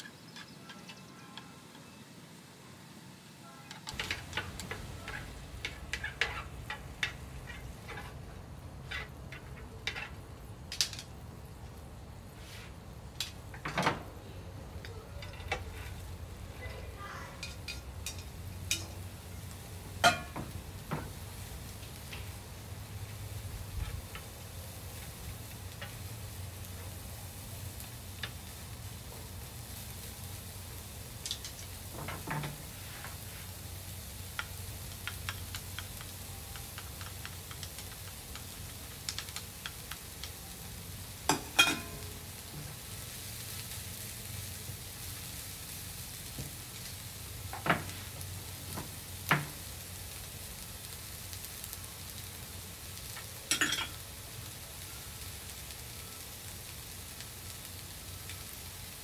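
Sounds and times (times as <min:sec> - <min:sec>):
meat sizzling on a griddle: 0:03.9 - 0:59.0.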